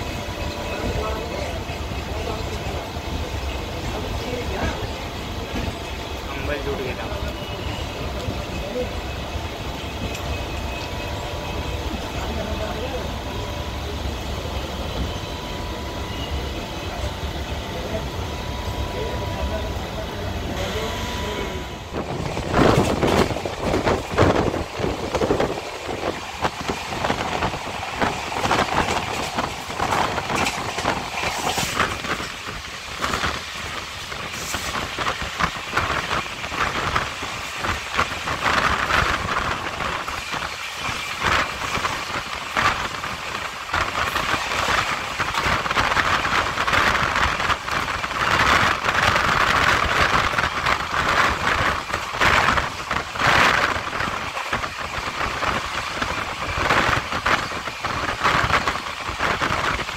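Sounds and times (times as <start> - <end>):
train coach rumbling: 0.0 - 59.9.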